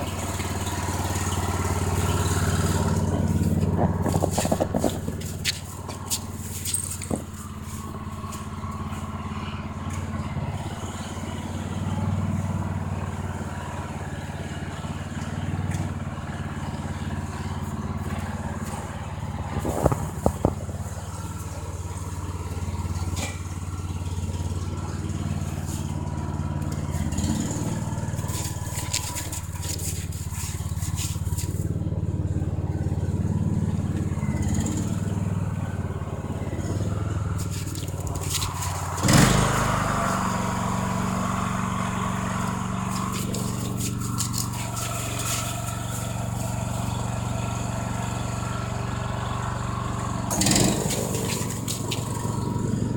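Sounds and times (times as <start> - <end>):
snowblower engine running: 0.0 - 52.9.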